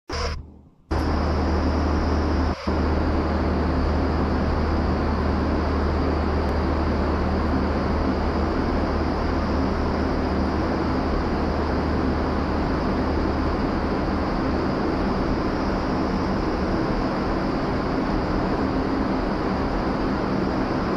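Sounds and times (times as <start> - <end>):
low hum: 0.1 - 20.9
rush of fan-driven air: 0.1 - 20.9.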